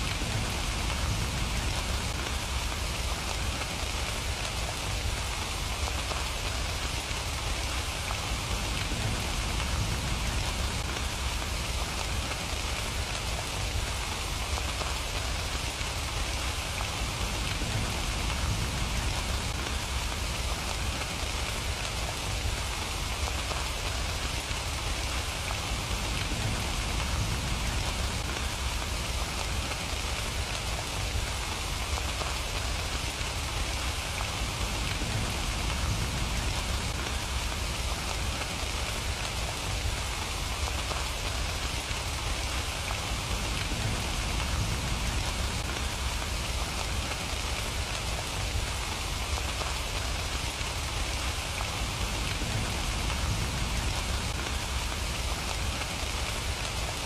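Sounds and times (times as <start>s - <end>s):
constant low rumble: 0.0s - 56.8s
steady rain falling: 0.0s - 57.0s.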